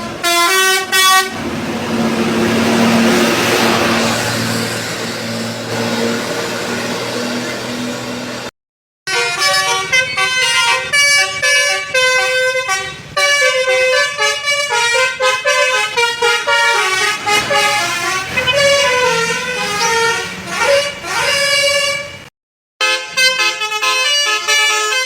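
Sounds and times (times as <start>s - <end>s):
bus melody horn playing tune: 0.0s - 8.5s, 9.1s - 25.0s.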